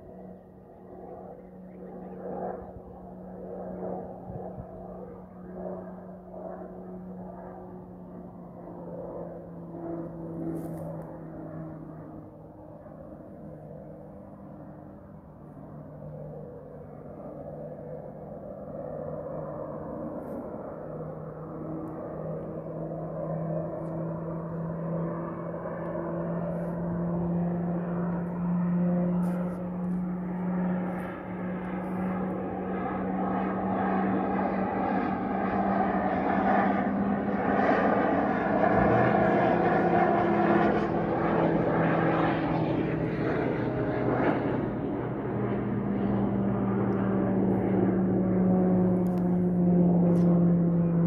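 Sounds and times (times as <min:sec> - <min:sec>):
aircraft engine drone: 0:00.0 - 0:51.0.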